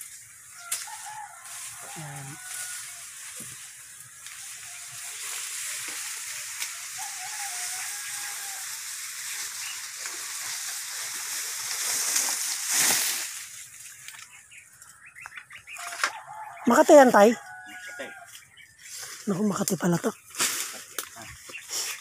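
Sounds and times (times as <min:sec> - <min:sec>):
dry corn leaves rustling: 0:00.0 - 0:22.0.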